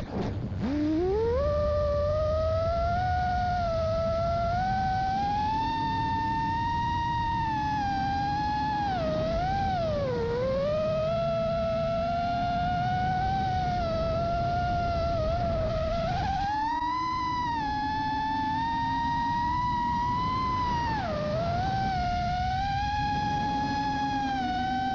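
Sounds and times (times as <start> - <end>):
quadcopter motors whining: 0.0 - 24.9.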